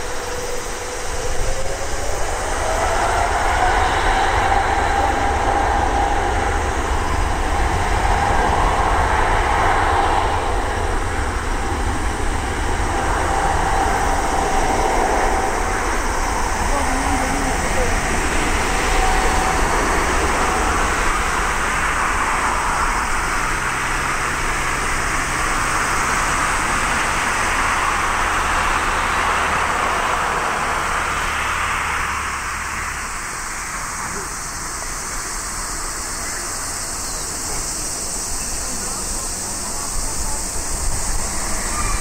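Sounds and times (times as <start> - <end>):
jet engines roaring at takeoff: 0.0 - 42.0.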